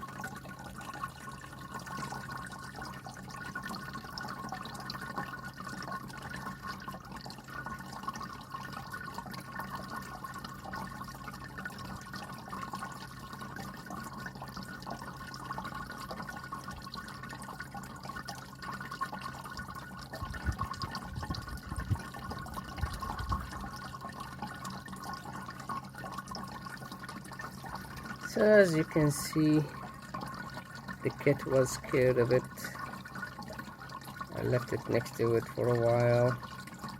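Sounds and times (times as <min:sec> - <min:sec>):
water fountain pump humming: 0:00.0 - 0:36.9
water trickling and dripping: 0:00.0 - 0:36.9.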